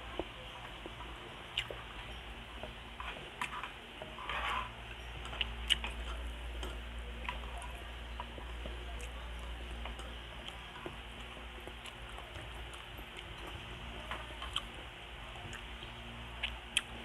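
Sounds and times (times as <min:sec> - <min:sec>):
chewing food: 0:00.0 - 0:17.0
faint low hum: 0:00.0 - 0:17.0.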